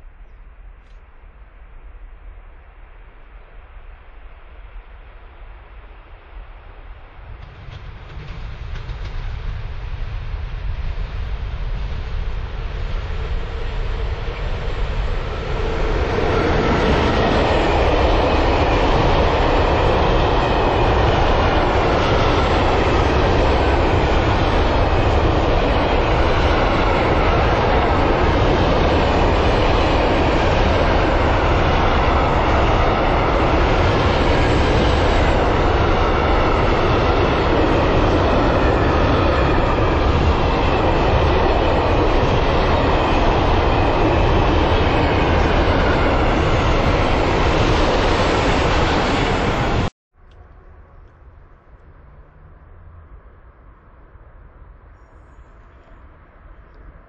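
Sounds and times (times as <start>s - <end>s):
freight train rumbling past: 3.9s - 49.9s.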